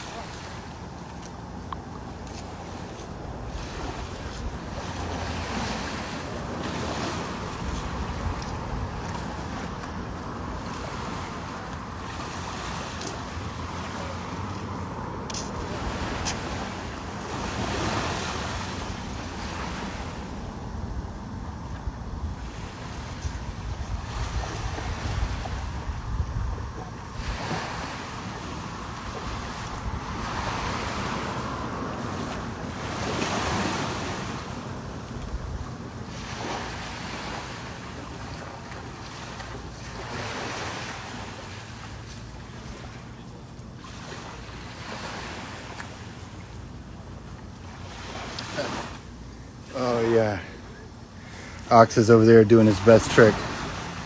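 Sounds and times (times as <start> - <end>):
ocean surf washing in: 0.0 - 46.9, 47.7 - 54.0
wind rumbling on microphone: 0.0 - 50.1.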